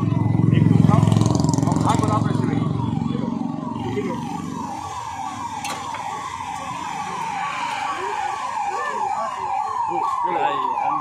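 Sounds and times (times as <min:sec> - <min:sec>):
siren yelping: 0:00.0 - 0:11.0
street traffic: 0:00.0 - 0:11.0.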